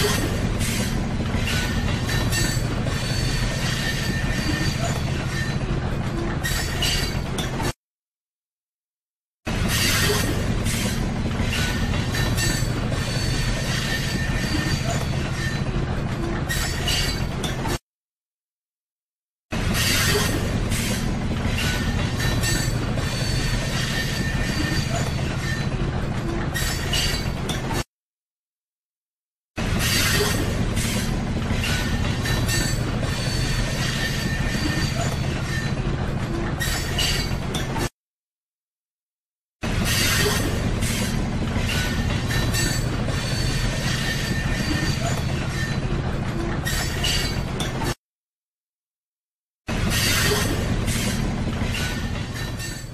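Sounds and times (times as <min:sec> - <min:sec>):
wheel squeal: 0:00.0 - 0:07.7, 0:09.6 - 0:17.8, 0:19.7 - 0:27.8, 0:29.7 - 0:37.9, 0:39.7 - 0:48.0, 0:49.8 - 0:52.9
train rattling: 0:00.0 - 0:07.8, 0:09.5 - 0:17.8, 0:19.5 - 0:27.9, 0:29.6 - 0:37.9, 0:39.6 - 0:48.0, 0:49.7 - 0:52.9
train rumbling on rails: 0:00.0 - 0:07.8, 0:09.5 - 0:17.8, 0:19.5 - 0:27.9, 0:29.6 - 0:37.9, 0:39.6 - 0:48.0, 0:49.7 - 0:52.9.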